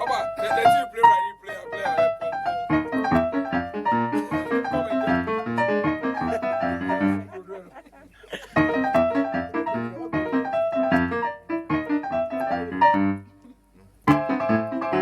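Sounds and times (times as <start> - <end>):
ragtime piano: 0.0 - 13.3, 14.0 - 15.0.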